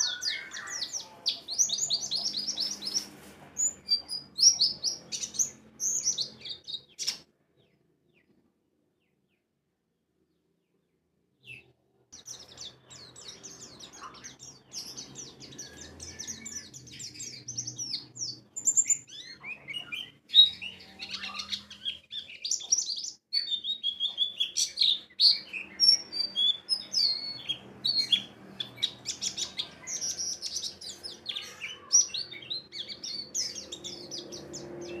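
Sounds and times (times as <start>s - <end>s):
bird chirping and twittering: 0.0s - 8.4s, 11.4s - 35.0s.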